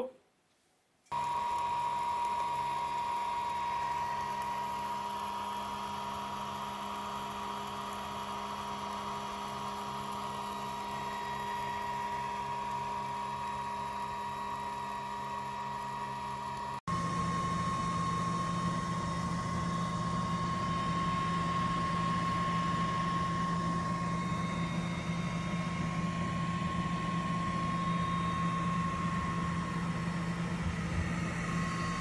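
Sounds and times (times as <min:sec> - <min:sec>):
laser engraver whine and hum: 0:01.1 - 0:32.0.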